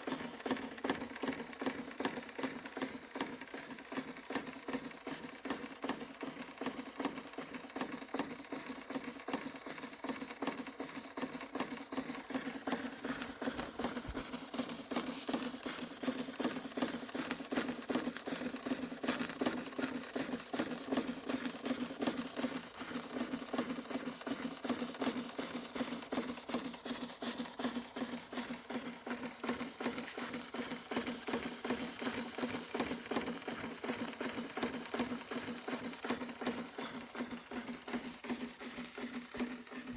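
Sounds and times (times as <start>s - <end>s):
toy steam engine running: 0.0s - 39.9s.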